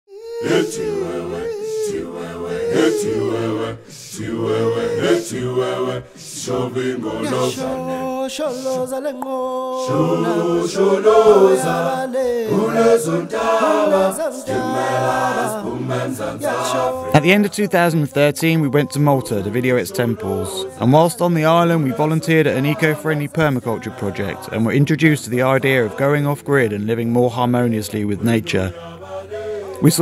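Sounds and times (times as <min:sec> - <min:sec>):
voices singing a cappella: 0:00.1 - 0:30.0.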